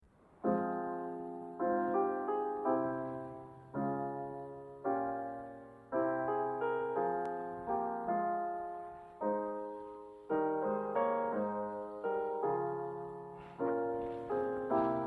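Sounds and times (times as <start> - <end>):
piano playing slow chords: 0.3 - 15.0.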